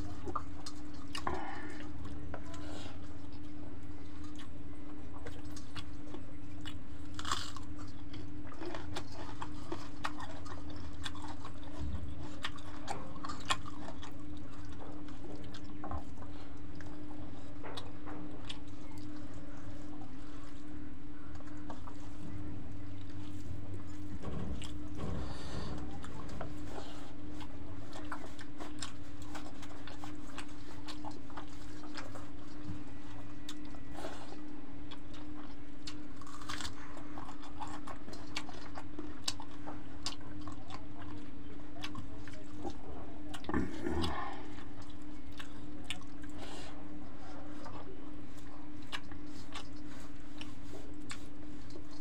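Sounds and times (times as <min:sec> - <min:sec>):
chewing mouth sounds: 0:00.0 - 0:52.0
steady low hum: 0:00.0 - 0:52.0.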